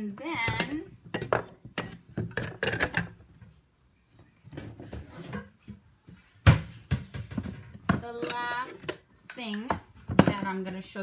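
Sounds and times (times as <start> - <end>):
kitchen items set on countertop: 0.0 - 11.0.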